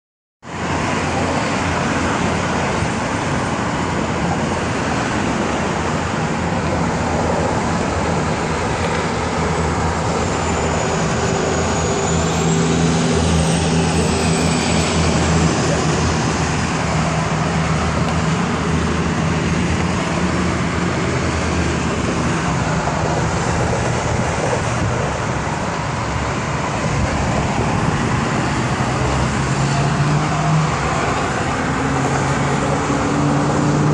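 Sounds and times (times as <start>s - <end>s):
road traffic: 0.4s - 33.9s.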